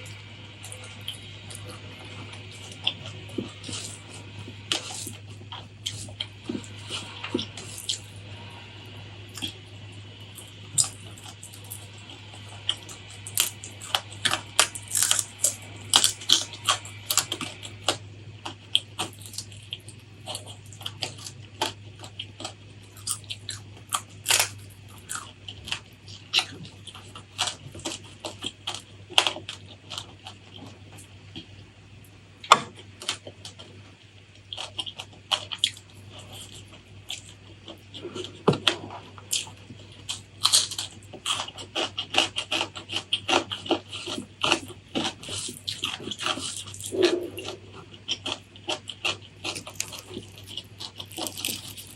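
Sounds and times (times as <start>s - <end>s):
crunchy chewing: 0.0s - 51.9s
faint low hum: 0.0s - 51.9s.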